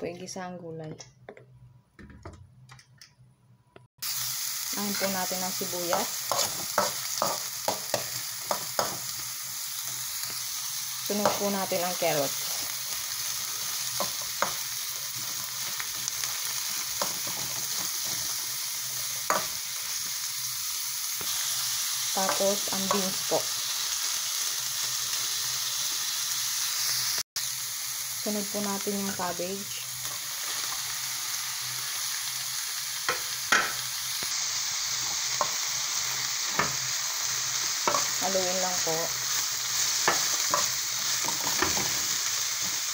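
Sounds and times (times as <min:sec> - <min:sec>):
vegetables sizzling in hot oil: 0:04.0 - 0:42.9.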